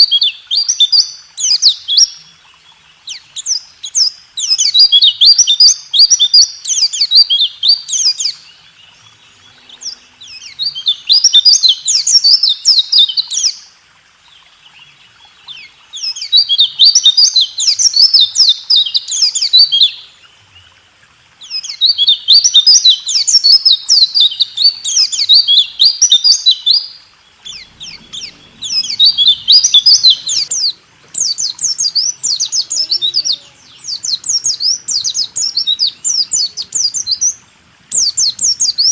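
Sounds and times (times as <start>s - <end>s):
bird chirping trills: 0.0s - 20.8s, 21.4s - 38.9s.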